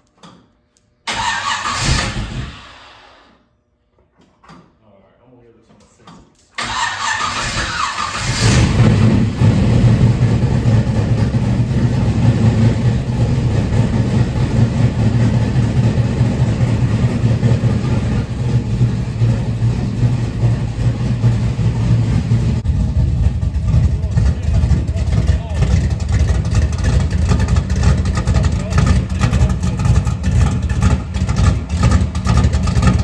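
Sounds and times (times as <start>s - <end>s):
car engine starting and idling: 1.1s - 3.3s, 6.6s - 33.0s.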